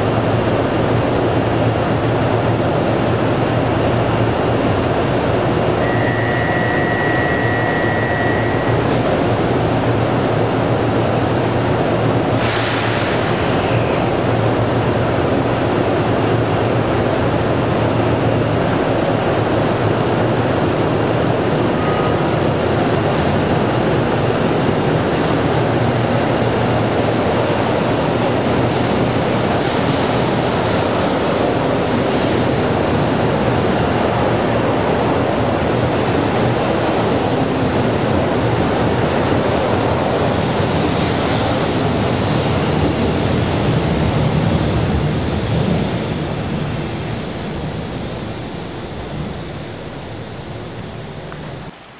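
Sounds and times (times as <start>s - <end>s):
train rolling past: 0.0s - 51.8s.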